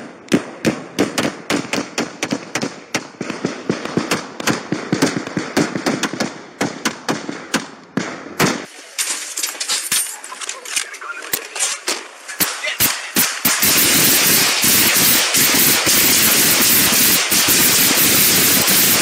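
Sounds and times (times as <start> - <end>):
volley of gunshots: 0.0 - 8.7, 12.4 - 19.0.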